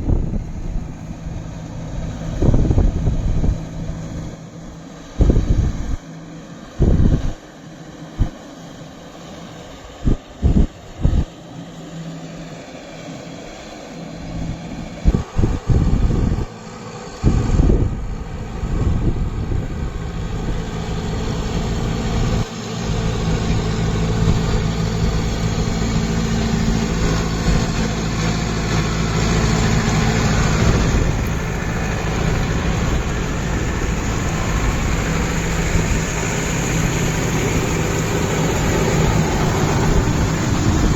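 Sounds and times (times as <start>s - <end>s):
wind buffeting microphone: 0.0s - 6.0s, 6.7s - 7.4s, 8.2s - 8.4s, 9.9s - 11.4s, 14.2s - 40.9s
tractor diesel engine running: 0.0s - 9.3s, 10.1s - 40.9s.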